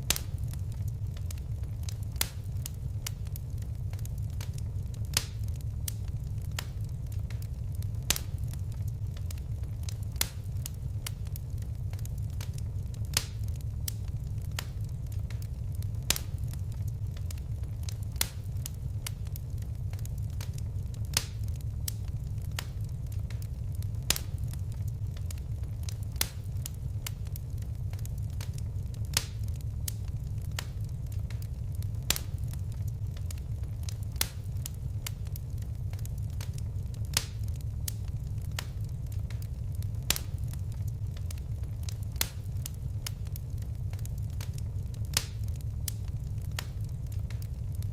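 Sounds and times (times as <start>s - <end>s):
sharp pops from fire: 0.0s - 47.9s
wood fire crackling: 0.0s - 47.9s.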